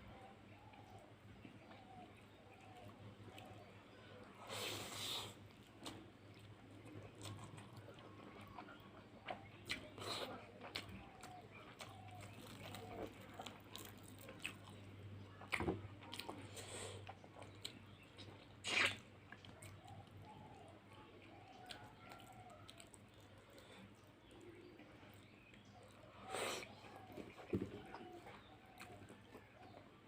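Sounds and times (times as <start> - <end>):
person chewing food: 4.4 - 20.3, 21.2 - 30.0.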